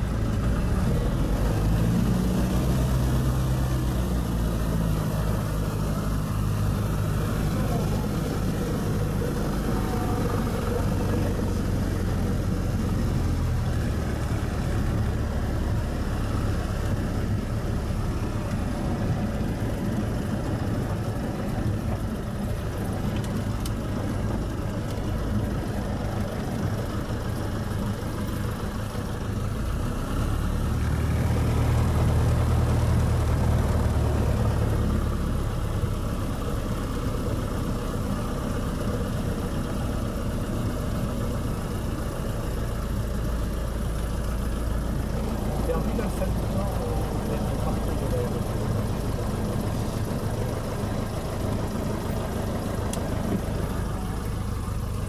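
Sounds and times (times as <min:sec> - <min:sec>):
light aircraft engine running: 0:00.0 - 0:55.0.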